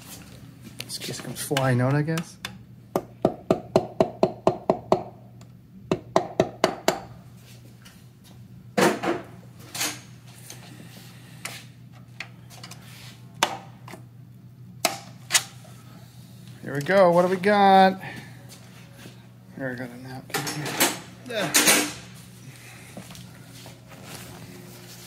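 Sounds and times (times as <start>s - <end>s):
low shop hum: 0.0s - 25.0s.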